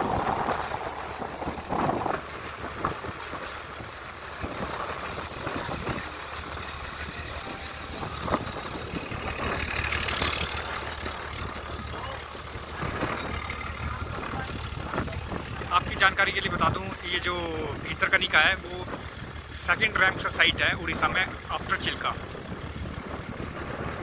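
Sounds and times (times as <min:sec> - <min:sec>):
motorboat engine running: 0:00.0 - 0:24.0
water rushing along hull: 0:00.0 - 0:24.0.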